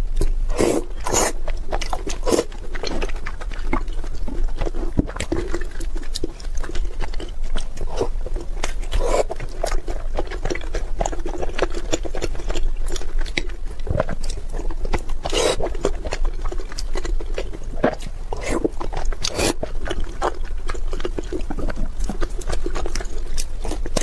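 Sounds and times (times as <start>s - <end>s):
wet chewing and lip smacks: 0.1s - 24.0s.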